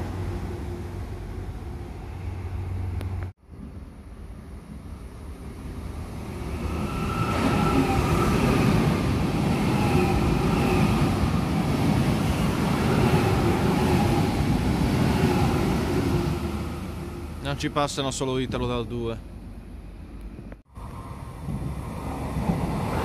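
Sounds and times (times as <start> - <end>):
train rushing past: 0.0 - 18.7, 20.7 - 23.0.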